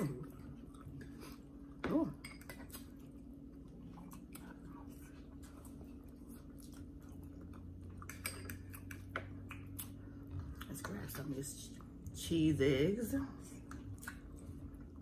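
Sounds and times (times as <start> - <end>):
quiet chewing: 0.0 - 12.2, 13.4 - 15.0
faint steady hum: 0.0 - 15.0.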